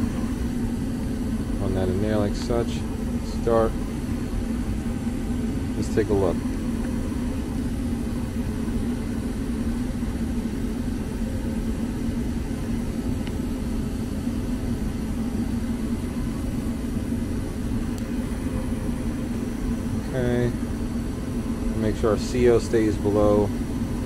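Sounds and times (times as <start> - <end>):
gas furnace running: 0.0 - 24.0.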